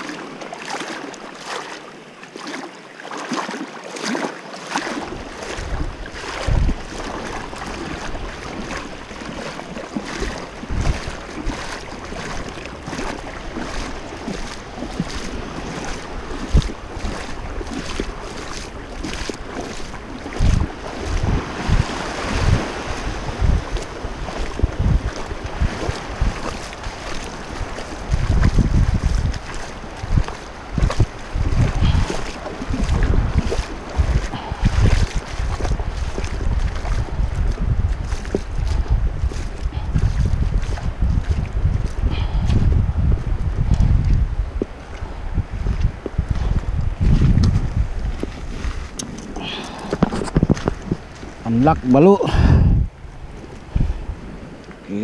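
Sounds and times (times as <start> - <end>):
small waves washing ashore: 0.0 - 55.0
wind buffeting microphone: 5.0 - 55.0.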